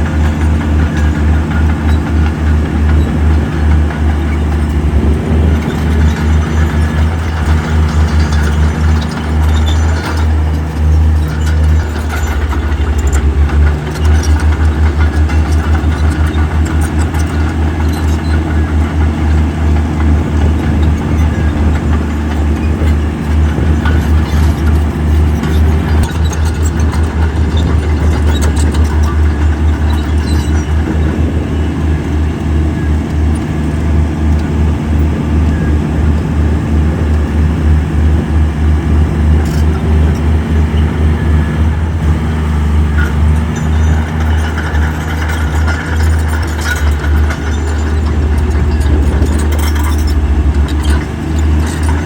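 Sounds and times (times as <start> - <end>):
heavy diesel engine rumbling: 0.0 - 52.0.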